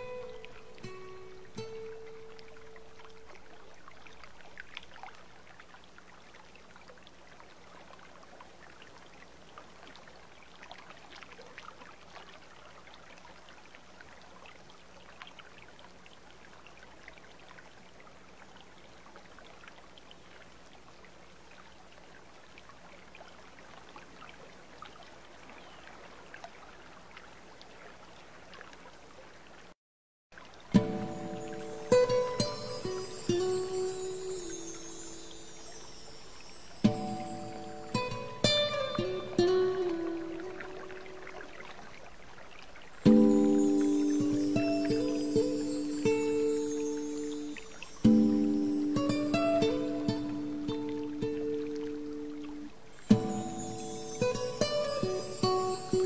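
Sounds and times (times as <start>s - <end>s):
mountain stream running: 0.0s - 29.8s, 30.4s - 56.0s.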